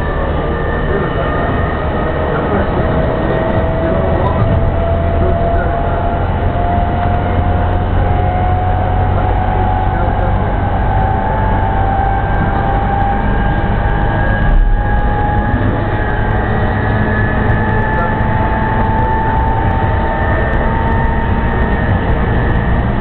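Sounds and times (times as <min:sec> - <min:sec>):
rising whine: 0:00.0 - 0:23.0.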